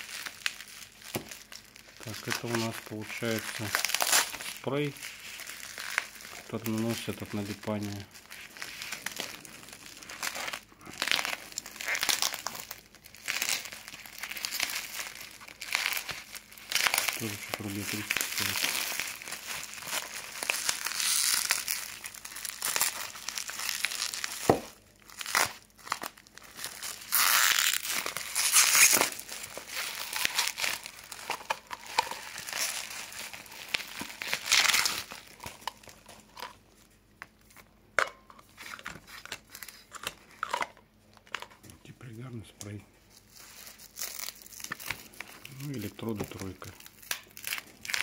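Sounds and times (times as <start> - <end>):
plastic wrapping crinkling and tearing: 0.0 - 37.7, 38.4 - 48.0.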